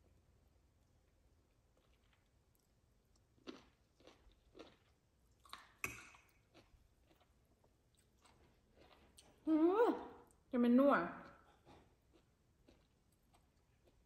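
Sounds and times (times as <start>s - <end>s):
person chewing food: 0.8s - 9.5s, 11.2s - 14.0s.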